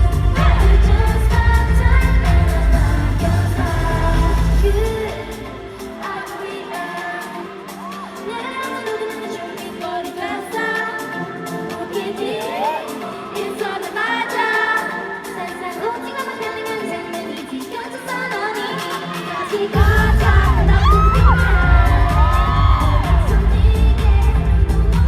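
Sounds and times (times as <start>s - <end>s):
girl group singing live: 0.0s - 25.0s
pop backing track: 0.0s - 25.0s.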